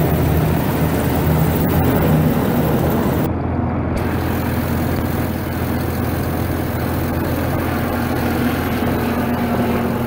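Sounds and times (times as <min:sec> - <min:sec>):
bulldozer diesel engine running: 0:00.0 - 0:10.0.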